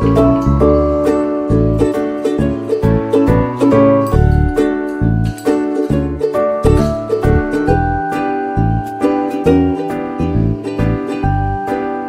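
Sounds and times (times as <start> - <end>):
melody over bass line: 0.0 - 12.0.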